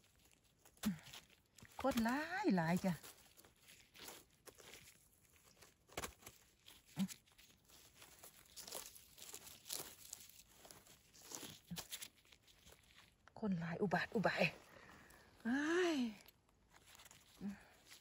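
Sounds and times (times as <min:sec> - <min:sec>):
twigs crunching and snapping: 0:00.0 - 0:13.4, 0:14.6 - 0:18.0
hands rustling dry needles: 0:00.0 - 0:18.0.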